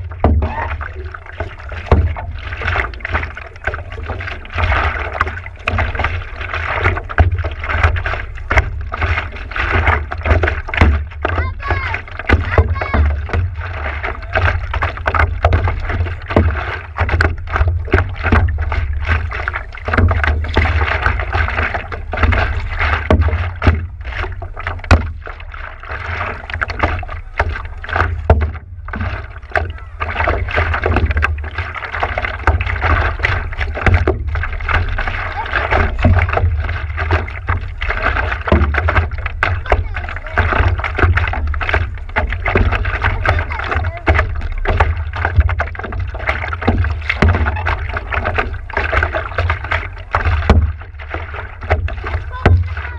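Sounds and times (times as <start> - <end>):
deep rumble: 0.0 - 52.9
paddle splashes: 0.0 - 52.9
water sloshing against paddleboard: 0.0 - 52.9.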